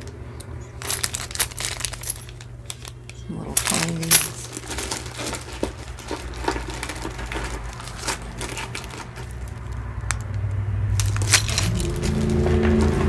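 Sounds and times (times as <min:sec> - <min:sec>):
small metal pieces clinking: 0:00.8 - 0:10.3, 0:11.0 - 0:13.0.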